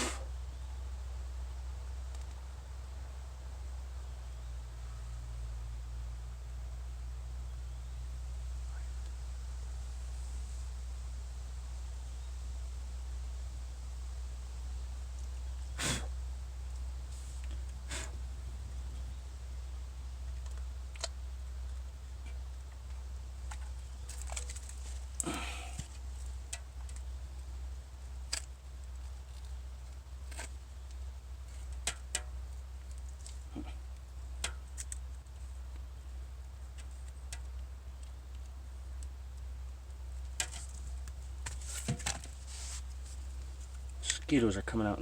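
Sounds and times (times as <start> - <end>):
low hum: 0.0 - 44.2.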